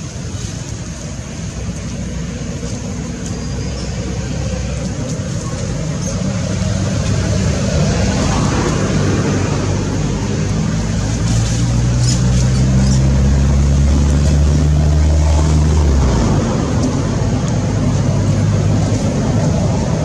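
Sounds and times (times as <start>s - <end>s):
broad background noise: 0.0s - 20.0s.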